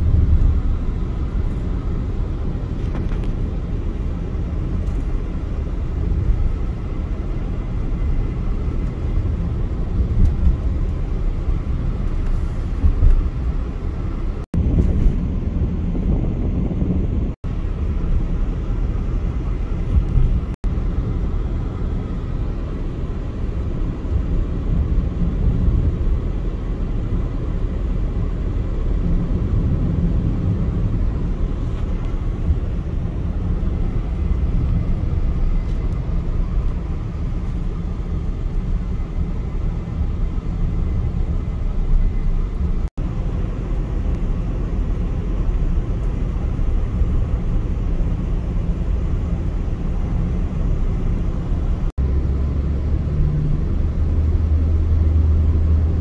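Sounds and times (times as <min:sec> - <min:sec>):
car road and wind noise: 0:00.0 - 0:56.0.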